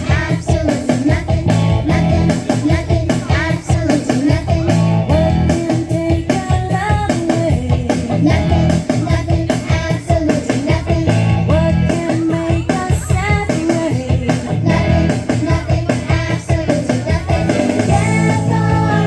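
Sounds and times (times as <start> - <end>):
upbeat song with singer: 0.0 - 19.0.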